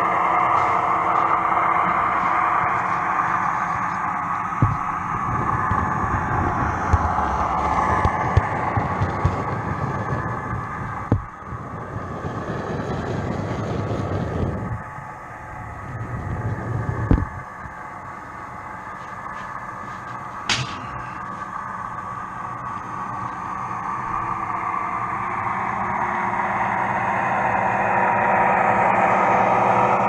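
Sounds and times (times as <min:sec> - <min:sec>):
wheels clicking over rail joints: 0:00.0 - 0:24.6
model train running: 0:00.0 - 0:30.0.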